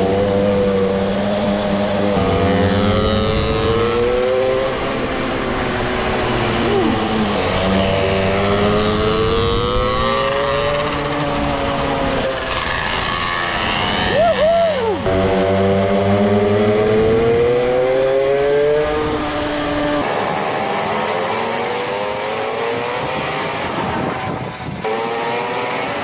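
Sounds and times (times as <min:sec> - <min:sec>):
mini motorbike engines racing: 0:00.0 - 0:26.0.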